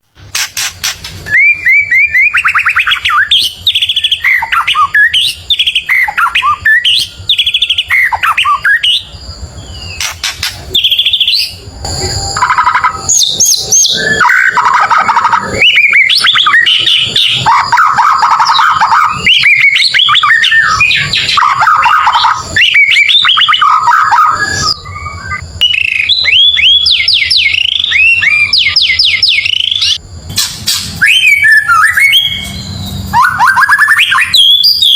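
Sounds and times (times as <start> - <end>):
songbird singing loudly: 0.6 - 30.0, 30.8 - 34.9.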